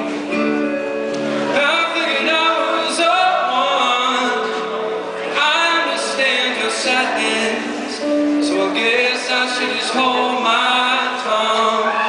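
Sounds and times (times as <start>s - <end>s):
acoustic guitar: 0.0s - 12.0s
man singing with vibrato: 1.2s - 12.0s.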